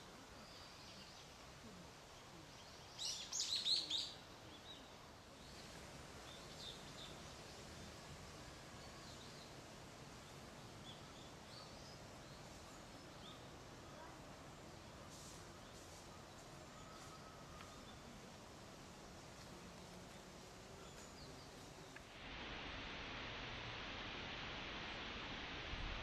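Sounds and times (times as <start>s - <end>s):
songbirds chirping: 0.0s - 22.1s
steady background hiss: 0.0s - 26.0s.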